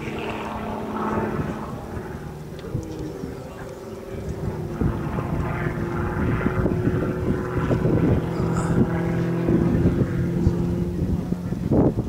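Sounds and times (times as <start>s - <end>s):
propeller plane engine droning: 0.0s - 12.0s
wind buffeting microphone: 0.0s - 12.0s.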